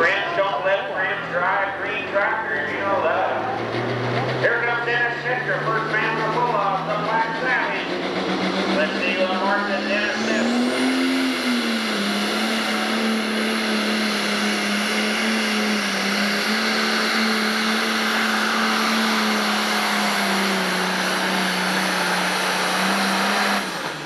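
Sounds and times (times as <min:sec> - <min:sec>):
diesel engine at full throttle: 0:00.0 - 0:24.0.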